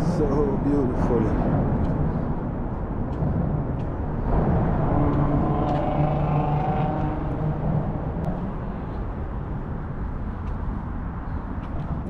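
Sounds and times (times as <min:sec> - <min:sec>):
outdoor rumble: 0:00.0 - 0:12.0
vehicle engine hum: 0:00.0 - 0:12.0.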